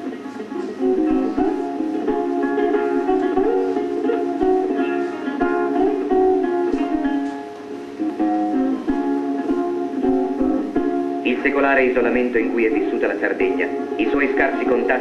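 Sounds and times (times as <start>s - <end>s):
plucked strings melody: 0.0s - 15.0s.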